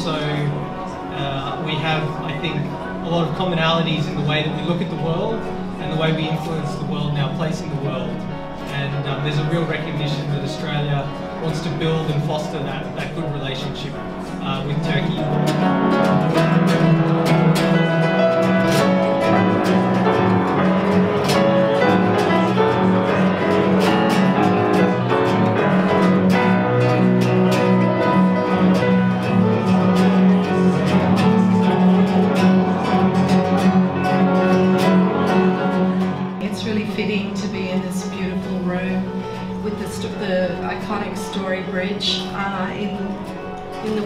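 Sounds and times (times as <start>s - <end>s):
classical guitar plucking: 0.0s - 44.0s
grand piano: 0.0s - 44.0s.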